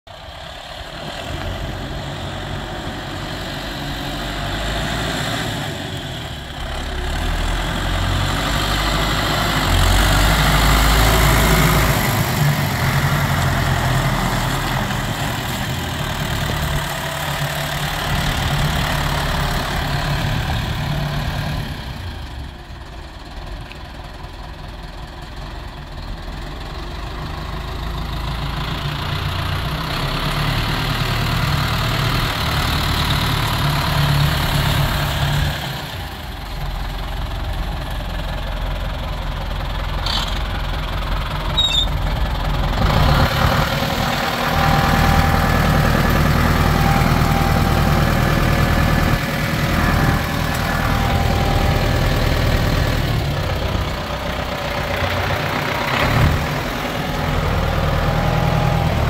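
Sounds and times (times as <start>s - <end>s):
tractor diesel engine passing: 0.1s - 59.0s.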